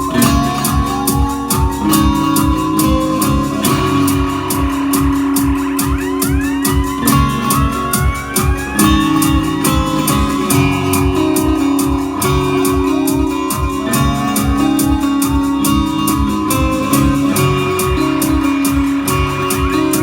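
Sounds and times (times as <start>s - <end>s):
electric guitar: 0.0s - 20.0s
steady drum beat: 0.0s - 20.0s.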